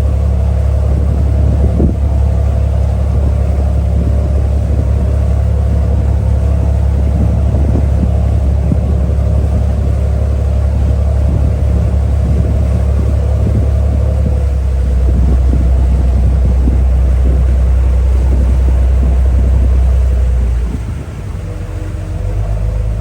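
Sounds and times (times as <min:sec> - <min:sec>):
ferry engine drone: 0:00.0 - 0:23.0
steady hum: 0:00.0 - 0:23.0.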